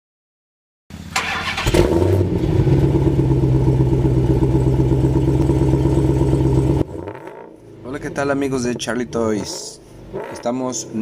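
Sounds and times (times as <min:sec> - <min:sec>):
car engine rumbling: 0:00.9 - 0:11.0.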